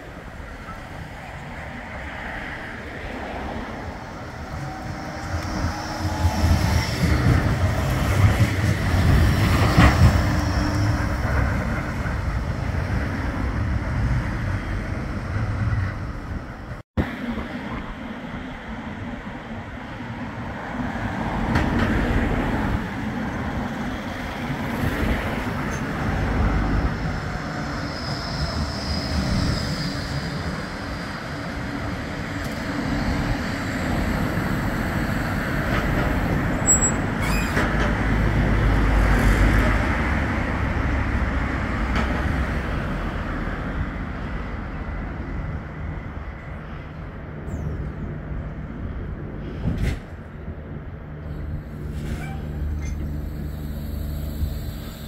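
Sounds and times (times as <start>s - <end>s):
tram wheels rumbling on rail: 0.0s - 55.0s.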